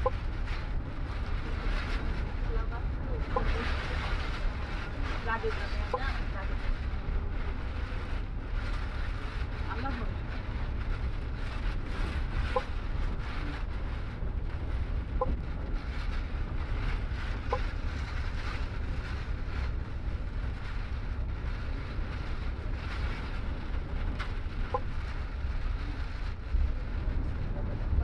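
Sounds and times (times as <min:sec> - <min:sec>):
bus engine and road rumble: 0:00.0 - 0:28.0
wind rushing over bus: 0:00.0 - 0:28.0.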